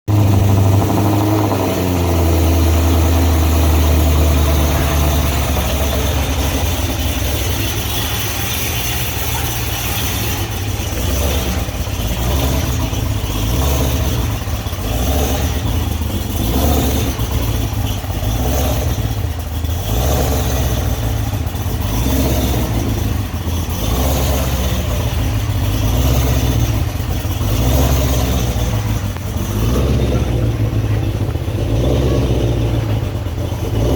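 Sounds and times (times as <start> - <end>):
car engine cold start idling: 0.1 - 33.9.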